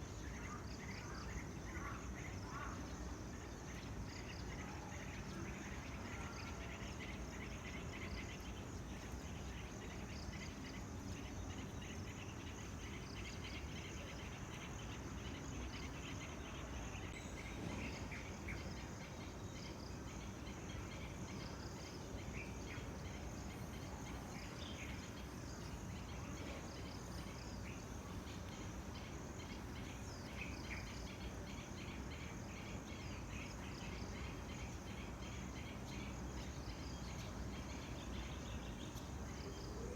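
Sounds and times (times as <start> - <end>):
insects chirring: 0.0 - 39.9
low background noise: 0.0 - 39.9
birds calling: 0.3 - 39.9.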